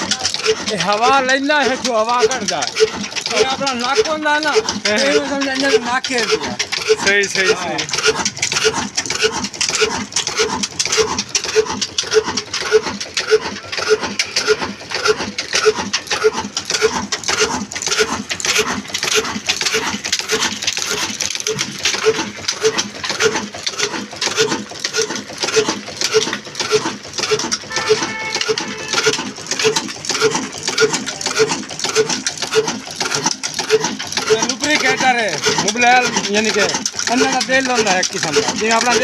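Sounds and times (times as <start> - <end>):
slow diesel engine running: 0.0 - 39.0.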